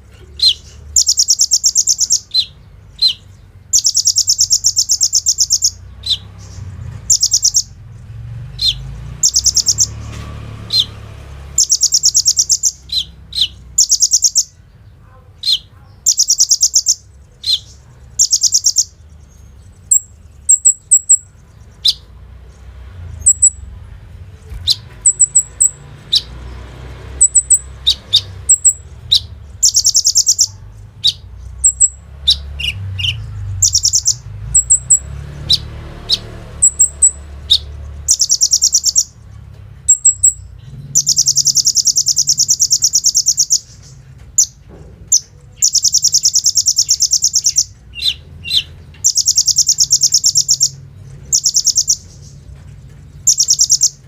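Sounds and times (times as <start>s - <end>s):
bird chirping and trilling: 0.0s - 23.8s, 24.4s - 54.0s.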